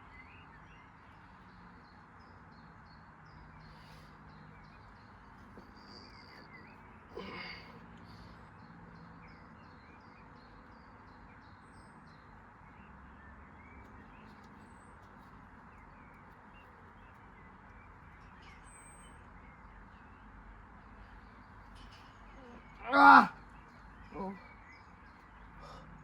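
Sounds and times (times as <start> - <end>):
small bird chirps: 0.0 - 22.8.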